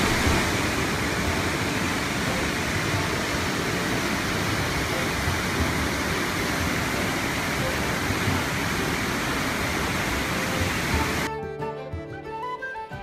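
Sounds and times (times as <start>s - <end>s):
waterfall rushing: 0.0s - 11.3s.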